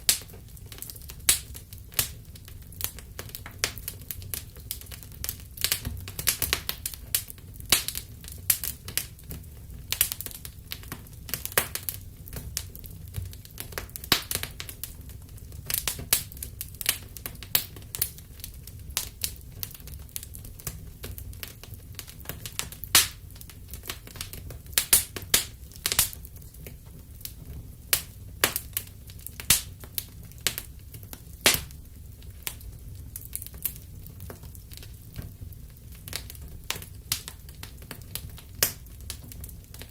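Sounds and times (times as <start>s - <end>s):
fire pops and snaps: 0.0s - 39.9s
low rumble of flames: 0.0s - 39.9s.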